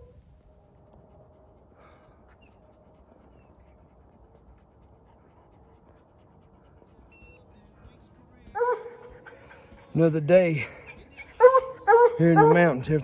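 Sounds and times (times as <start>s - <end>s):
dogs panting faintly: 0.5s - 13.0s.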